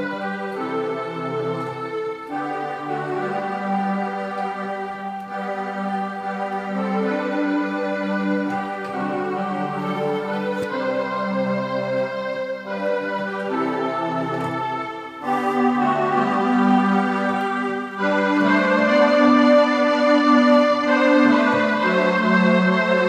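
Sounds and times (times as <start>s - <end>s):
electronic keyboard playing hymn: 0.0s - 23.0s.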